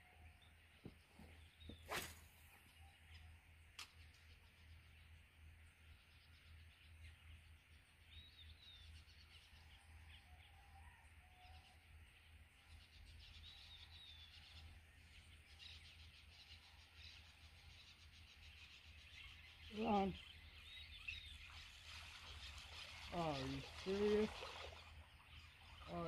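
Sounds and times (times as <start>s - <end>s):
distant bird chirps: 0.0s - 26.0s.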